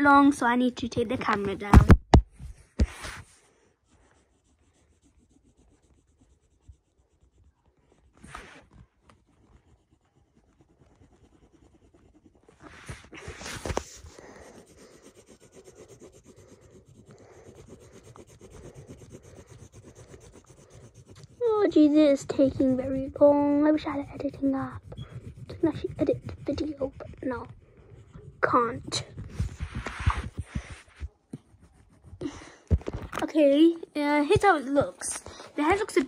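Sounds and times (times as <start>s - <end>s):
pencil shading on paper: 2.8s - 32.5s.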